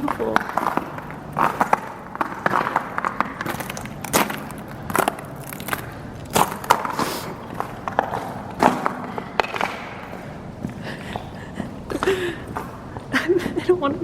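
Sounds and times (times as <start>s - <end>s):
footsteps crunching on snow: 0.0s - 14.0s.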